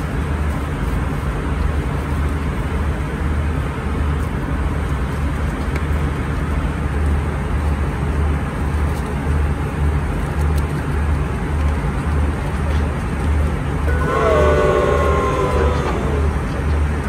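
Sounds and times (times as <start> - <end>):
jet cabin low rumble: 0.0 - 17.0.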